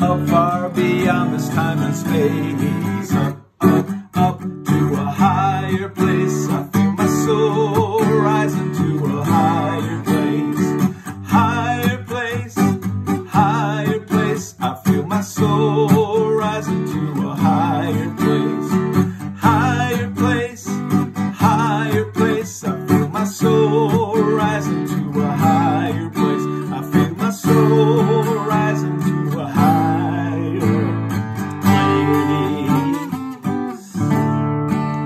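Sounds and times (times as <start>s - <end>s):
man singing wordlessly: 0.0s - 34.4s
acoustic guitar strumming: 0.0s - 35.0s.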